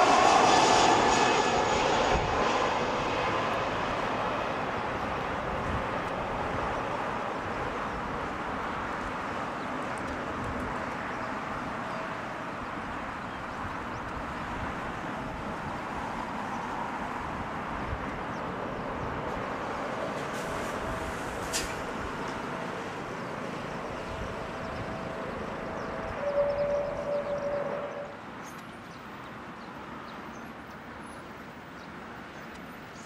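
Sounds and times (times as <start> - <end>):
jet engines rushing: 0.0 - 28.4.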